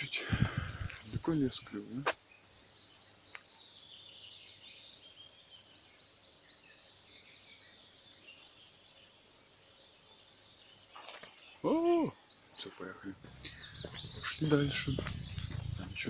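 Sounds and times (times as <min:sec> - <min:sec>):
faint birds singing: 0:00.0 - 0:16.0.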